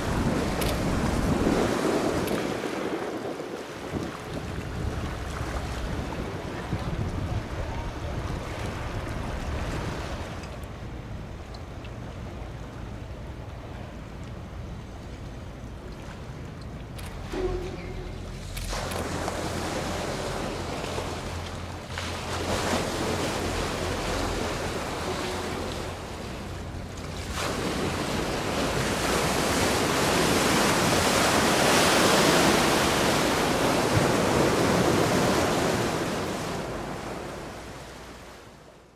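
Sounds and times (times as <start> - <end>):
wind rumble on microphone: 0.0 - 37.8
waves washing in and breaking: 0.0 - 38.9.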